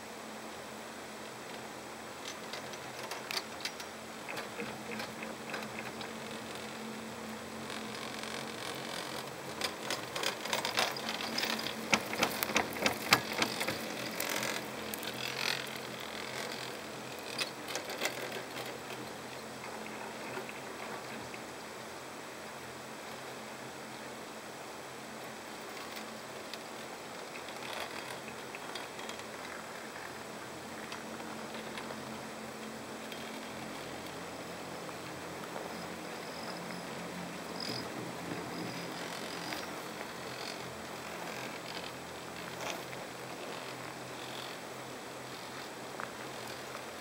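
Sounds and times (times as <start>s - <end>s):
steady hiss: 0.0s - 47.0s
chairlift rope clattering over wheels: 2.2s - 21.4s, 25.2s - 47.0s.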